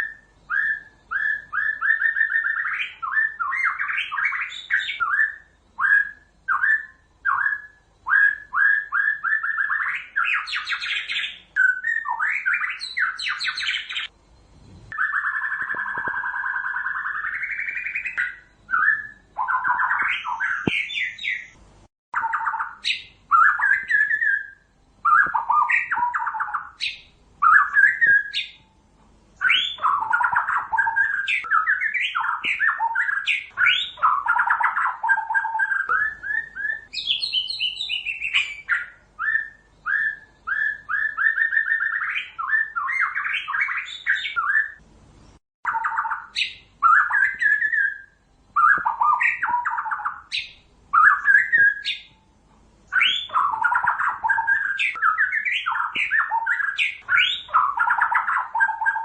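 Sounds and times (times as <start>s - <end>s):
bird singing whistled phrases: 0.0s - 14.1s, 14.9s - 21.6s, 22.2s - 28.7s, 29.4s - 44.8s, 45.6s - 52.2s, 52.9s - 59.0s.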